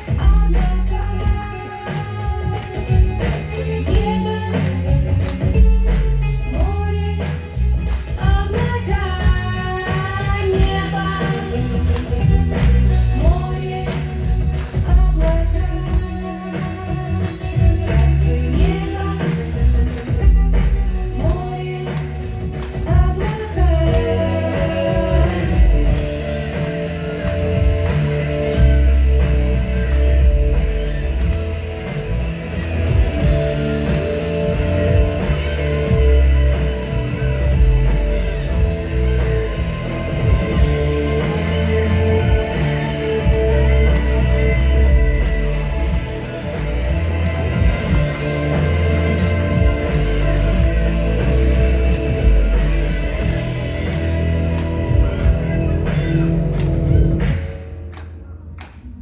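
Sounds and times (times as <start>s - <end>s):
music with steady beat: 0.0s - 58.2s
pulsing bass line: 0.0s - 58.2s.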